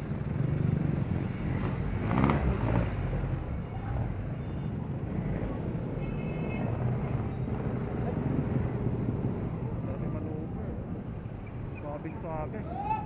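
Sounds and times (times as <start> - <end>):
passing motorcycles and vehicles: 0.0 - 13.0
scooter engine and road noise: 0.0 - 13.0.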